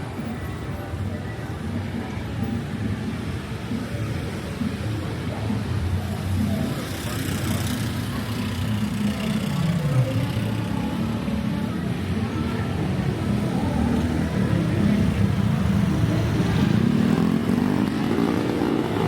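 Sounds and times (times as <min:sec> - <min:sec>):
car engines passing: 0:00.0 - 0:19.0
motorbike engines passing: 0:00.0 - 0:19.0.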